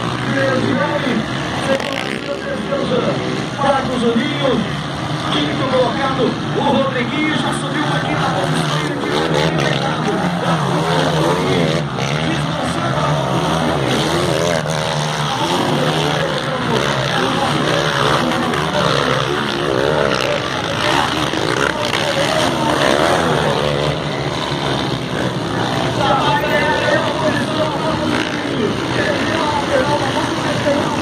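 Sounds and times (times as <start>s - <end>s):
motocross motorcycle engines racing: 0.0s - 31.0s.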